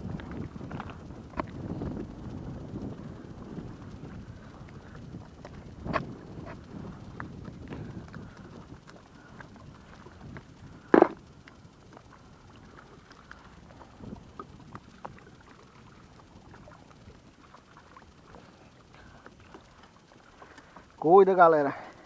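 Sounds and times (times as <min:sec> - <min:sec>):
water lapping: 0:00.0 - 0:22.0.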